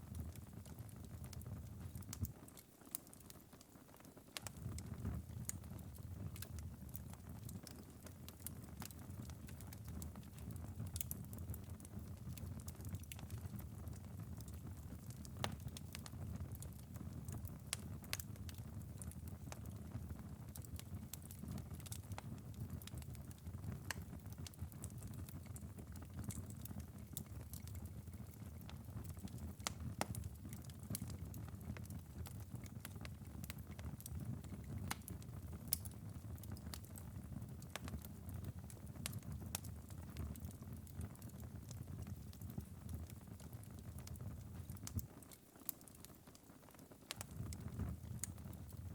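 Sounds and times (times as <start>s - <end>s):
embers crackling and popping: 0.0s - 48.9s.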